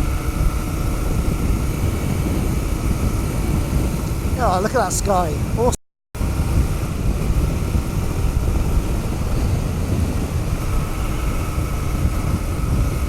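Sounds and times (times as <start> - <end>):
motorcycle engine running under load: 0.0 - 4.8, 6.2 - 13.0
wind noise on microphone: 0.0 - 13.0.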